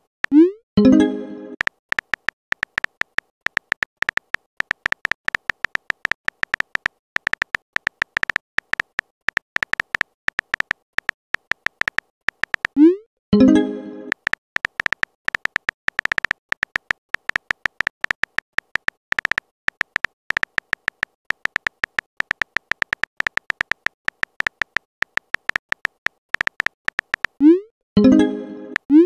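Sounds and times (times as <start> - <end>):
phone keyboard typing clicks: 0.2 - 29.0.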